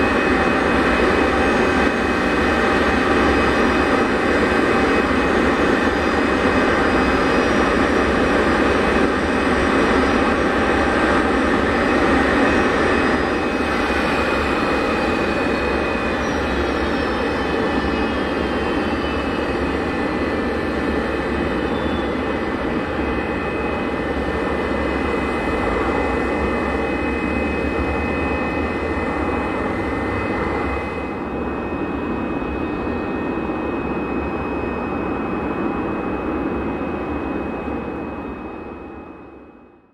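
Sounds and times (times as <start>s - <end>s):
jet engines idling with whine: 0.0s - 39.9s.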